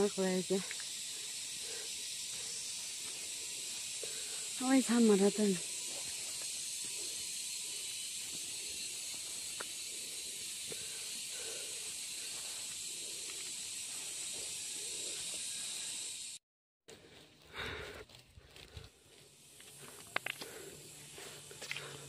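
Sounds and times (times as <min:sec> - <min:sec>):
high-pitched hiss: 0:00.0 - 0:16.4, 0:17.4 - 0:22.0.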